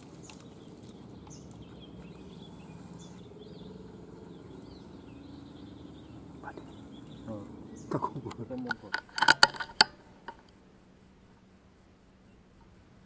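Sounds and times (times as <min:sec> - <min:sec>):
bird chirps: 0:00.0 - 0:11.5
low steady hum: 0:00.0 - 0:13.0.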